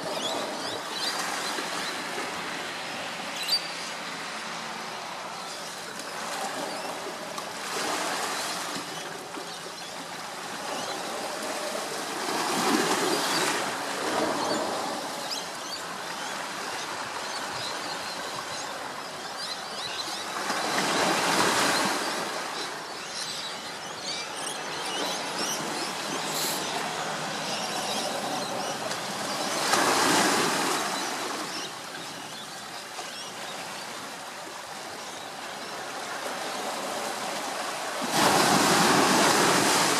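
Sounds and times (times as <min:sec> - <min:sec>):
waves washing on a shore: 0:00.0 - 0:39.9.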